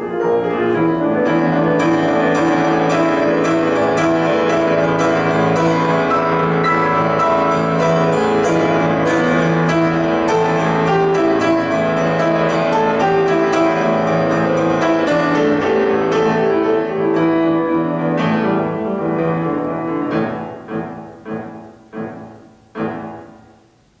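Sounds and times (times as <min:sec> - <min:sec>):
grand piano chords: 0:00.0 - 0:24.0.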